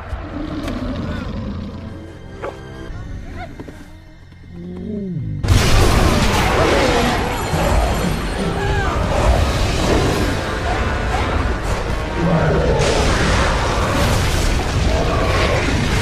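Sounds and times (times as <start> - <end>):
film soundtrack music: 0.0 - 16.0.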